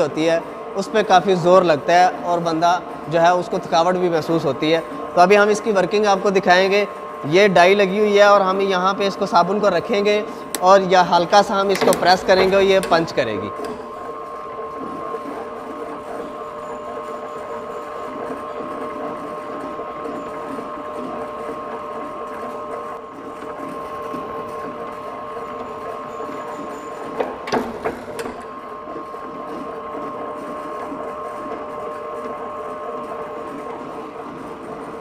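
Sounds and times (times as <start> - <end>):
electric motor humming: 0.0 - 35.0.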